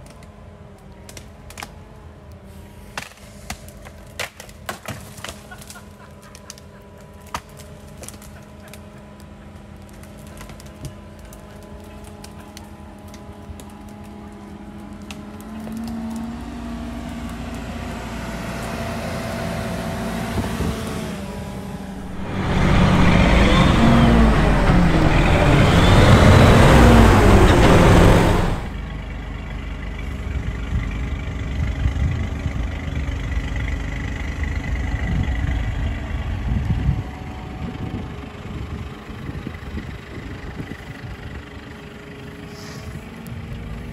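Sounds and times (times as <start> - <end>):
diesel engine revving: 5.2 - 43.9.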